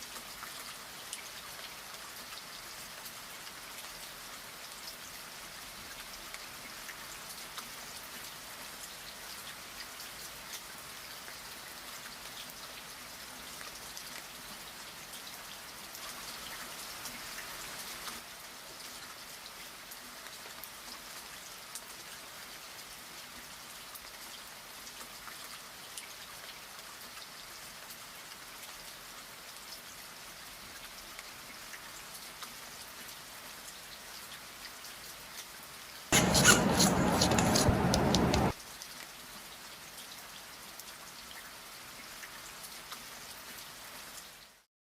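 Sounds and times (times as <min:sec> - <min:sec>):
steady rain pattering: 0:00.0 - 0:36.1, 0:37.9 - 0:44.7.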